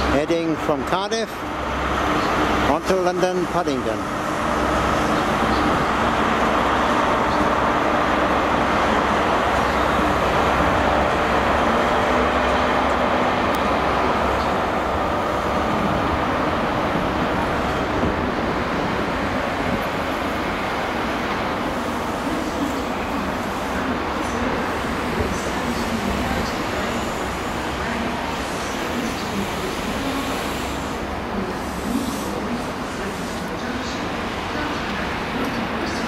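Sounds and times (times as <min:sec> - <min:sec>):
diesel engine pulling train: 0:00.0 - 0:36.0
train coaches rumbling past: 0:00.0 - 0:36.0.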